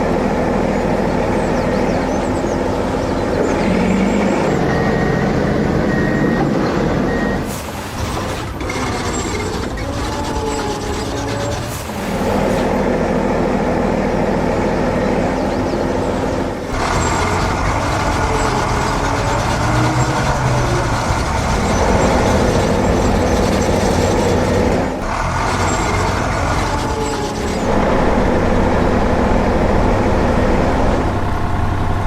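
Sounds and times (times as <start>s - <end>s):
heavy construction machinery running: 0.0s - 32.0s.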